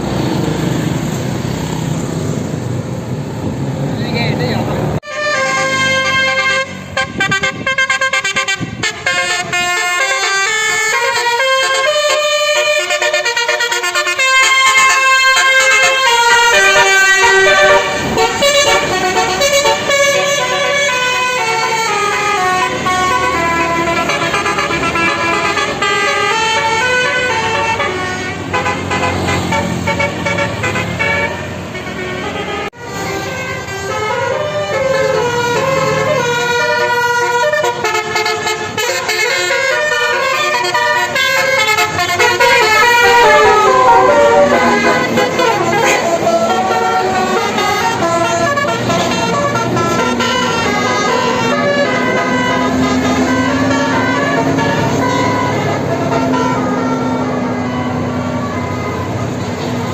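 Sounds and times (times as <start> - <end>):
bus horn playing a melody: 5.0 - 59.9.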